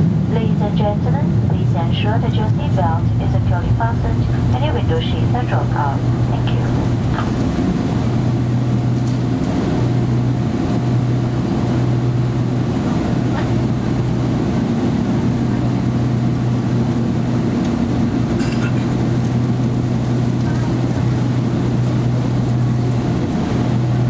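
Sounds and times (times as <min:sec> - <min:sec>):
aircraft cabin engine drone: 0:00.0 - 0:24.0.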